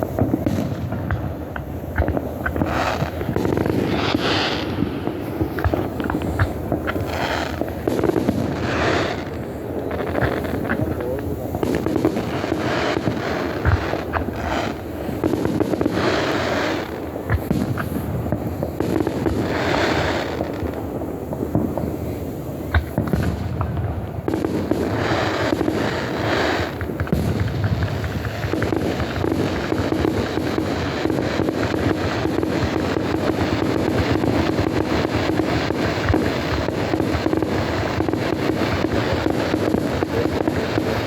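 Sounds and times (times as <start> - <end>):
fireworks booming: 0.0 - 41.0
rushing firework noise: 0.0 - 41.0
sharp firework bangs: 0.0 - 41.0.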